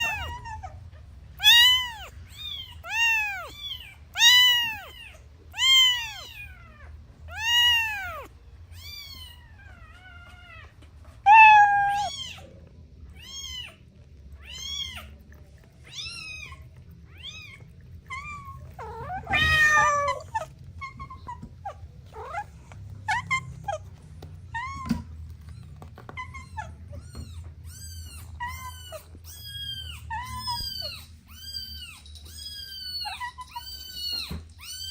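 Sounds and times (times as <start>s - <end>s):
kittens meowing: 0.0s - 34.9s.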